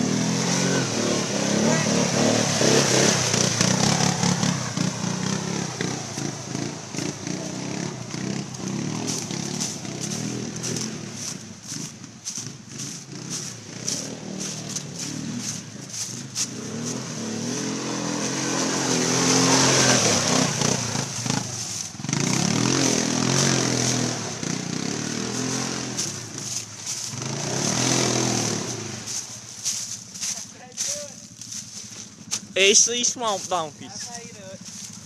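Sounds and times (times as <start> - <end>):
atv engine revving: 0.0 - 35.0.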